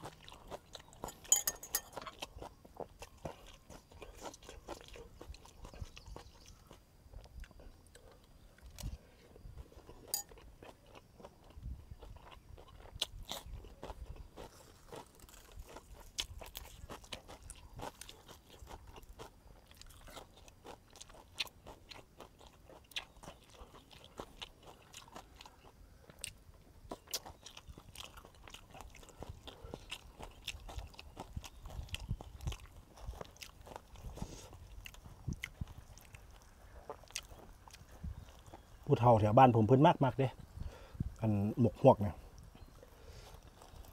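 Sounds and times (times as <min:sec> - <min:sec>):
man chewing with crunches: 0:00.0 - 0:39.3, 0:40.4 - 0:43.9.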